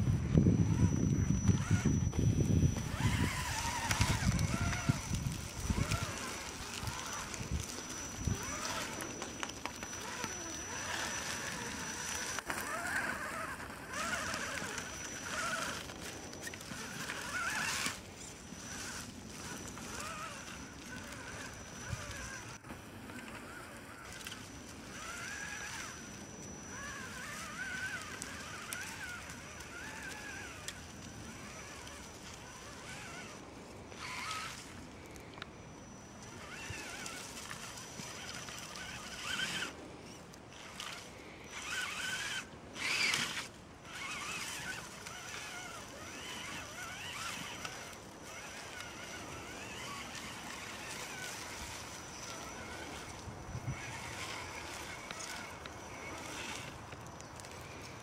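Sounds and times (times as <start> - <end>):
electric motor whining: 0.0 - 58.0
brush scraping against truck: 0.7 - 34.9, 36.2 - 58.0.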